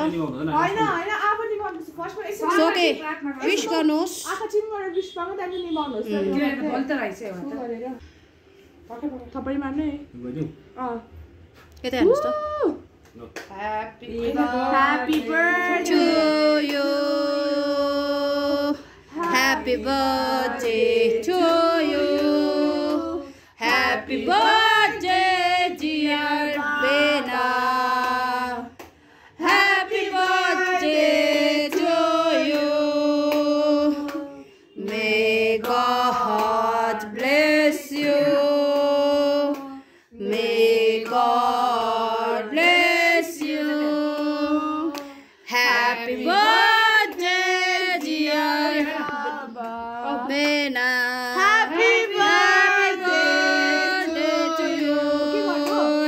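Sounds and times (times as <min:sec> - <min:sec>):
group singing birthday song: 0:00.0 - 0:04.4, 0:13.2 - 0:56.0.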